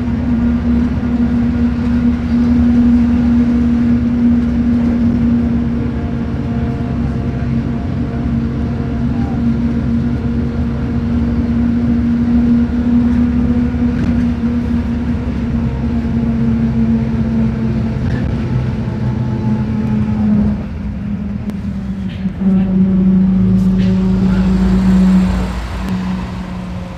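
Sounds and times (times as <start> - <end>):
bus diesel engine droning: 0.0 - 26.9.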